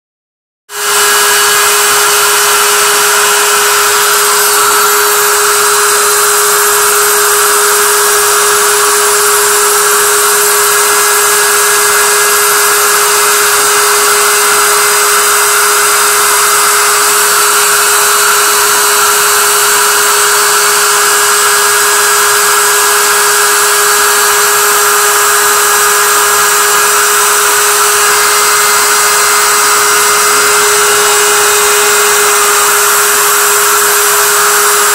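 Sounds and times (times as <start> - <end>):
mill spindle whining: 0.7 - 34.9.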